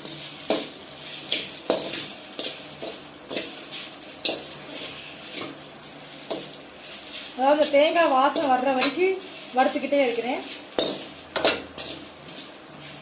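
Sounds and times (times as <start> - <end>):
spatula scraping a pan: 0.0 - 13.0.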